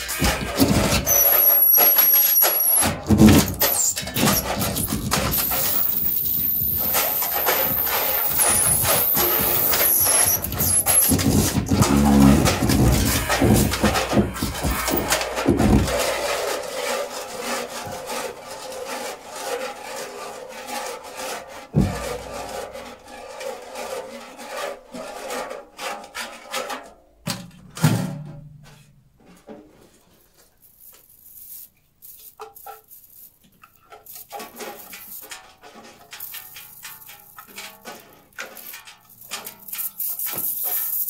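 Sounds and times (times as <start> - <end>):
scraping and rubbing sounds: 0.0 - 27.0, 28.7 - 41.0.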